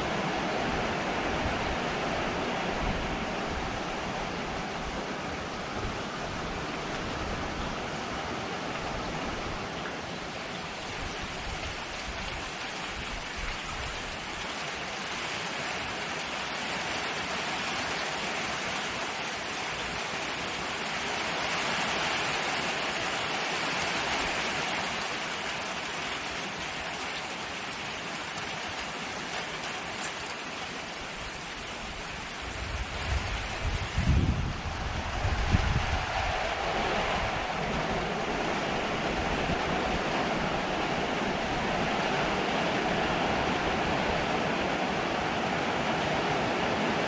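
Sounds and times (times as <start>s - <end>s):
heavy rain on metal roof: 0.0s - 47.0s.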